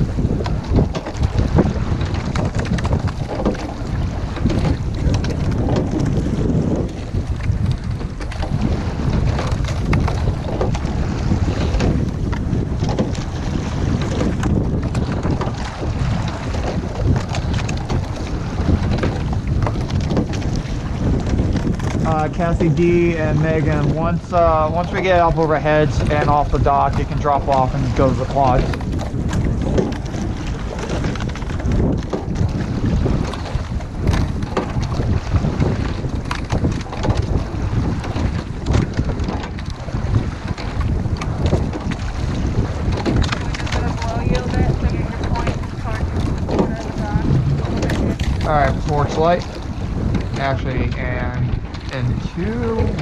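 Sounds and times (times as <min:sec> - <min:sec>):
water noise of a rowing boat: 0:00.0 - 0:53.0
wind buffeting the microphone: 0:00.0 - 0:53.0.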